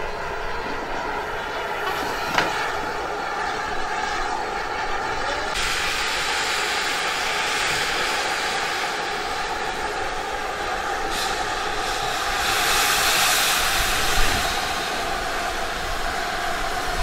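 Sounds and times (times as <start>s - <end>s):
escaping steam hiss: 0.0s - 17.0s
steam locomotive hiss and hum: 0.0s - 17.0s.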